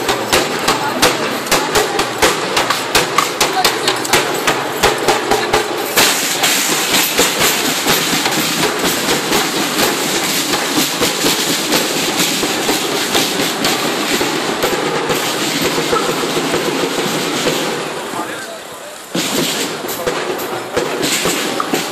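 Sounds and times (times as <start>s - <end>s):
bass drum marching beat: 0.0s - 18.2s, 19.1s - 21.9s
snare drum rattle: 0.0s - 18.5s, 19.1s - 21.9s.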